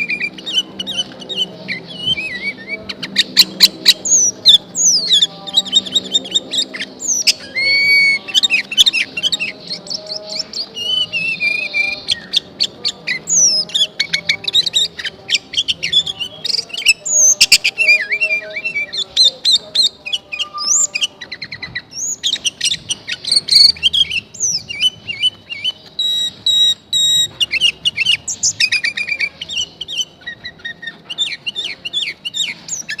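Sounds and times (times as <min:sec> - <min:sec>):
bird chirping and whistling: 0:00.0 - 0:33.0.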